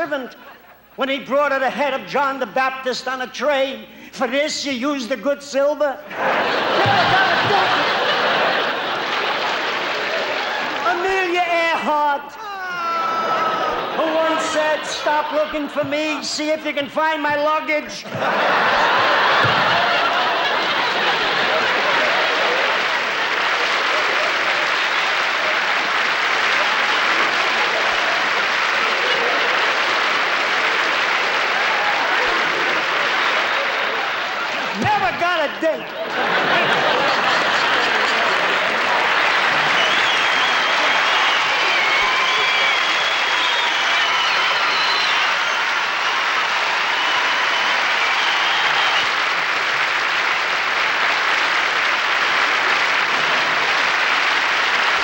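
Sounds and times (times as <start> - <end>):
audience applauding: 6.2 - 16.2, 18.1 - 55.0.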